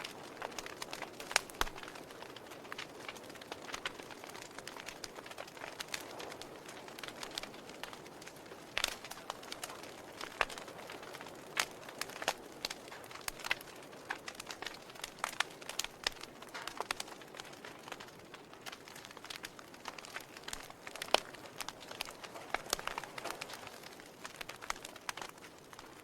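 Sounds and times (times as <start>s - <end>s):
fire crackling and popping: 0.0s - 26.0s
fire hissing softly: 0.0s - 26.0s.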